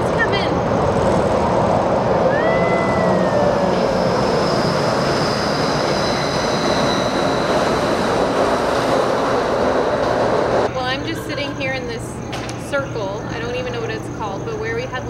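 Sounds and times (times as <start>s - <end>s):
monorail train rumble: 0.0s - 15.0s.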